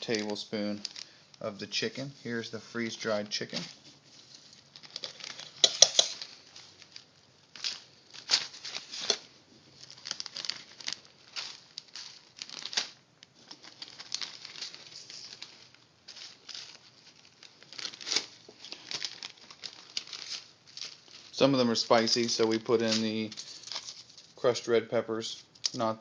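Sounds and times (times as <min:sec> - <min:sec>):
plastic bags crinkling: 0:00.0 - 0:24.7.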